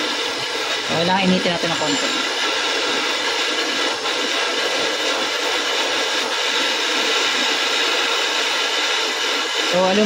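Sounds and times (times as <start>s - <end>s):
gas torch flame hissing: 0.0s - 10.0s.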